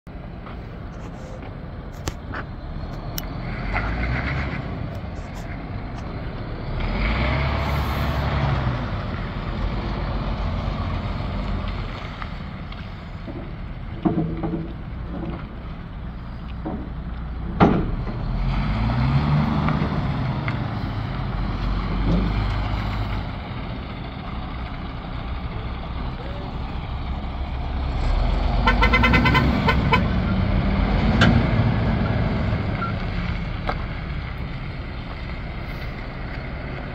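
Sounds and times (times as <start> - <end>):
truck diesel engine running: 0.1 - 36.9.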